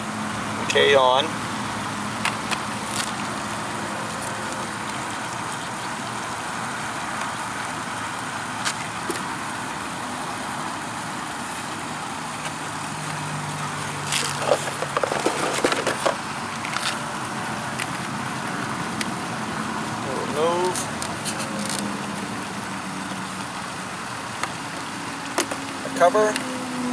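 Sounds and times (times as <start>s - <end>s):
steady background noise: 0.0s - 26.9s.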